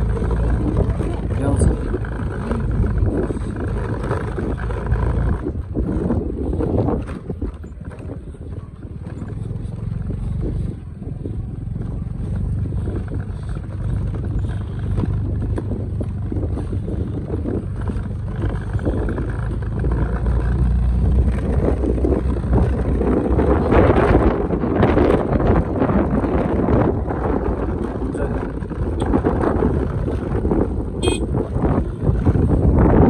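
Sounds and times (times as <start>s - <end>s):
motorcycle engine running: 0.0s - 33.0s
wind buffeting microphone: 0.0s - 33.0s.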